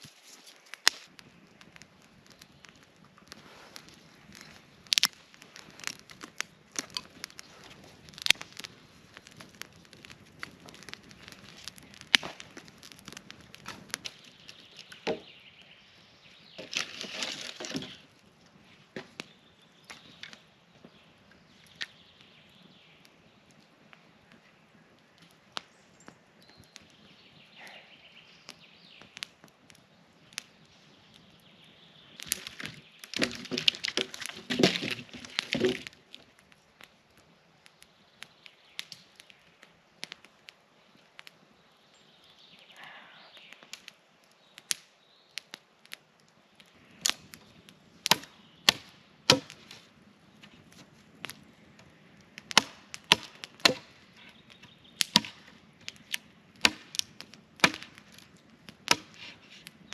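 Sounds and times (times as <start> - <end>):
dry wood cracking and snapping: 0.0 - 59.9.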